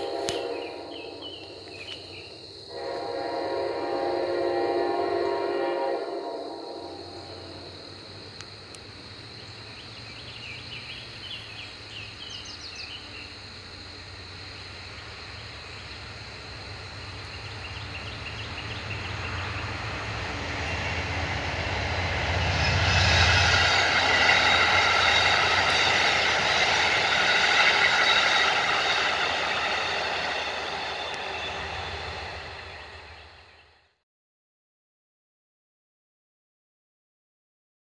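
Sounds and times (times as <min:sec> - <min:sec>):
train passing: 0:00.0 - 0:34.0.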